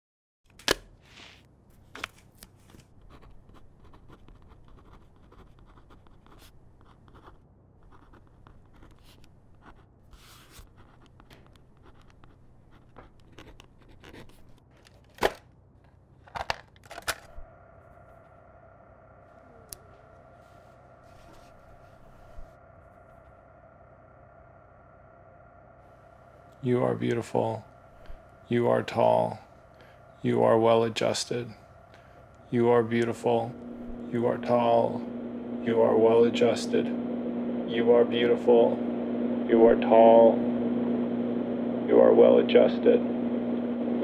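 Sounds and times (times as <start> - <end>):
steady electrical hum: 0.9 - 44.0.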